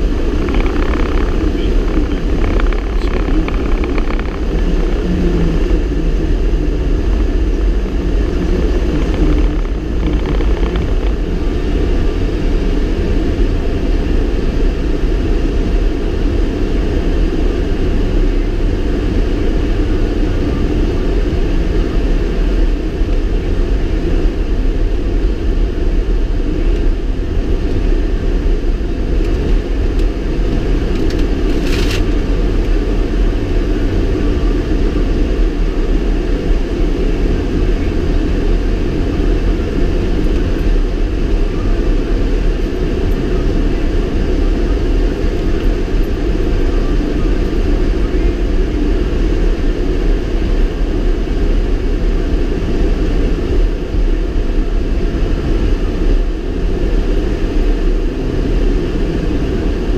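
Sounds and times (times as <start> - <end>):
vehicle engine and tyres rumbling: 0.0 - 59.9.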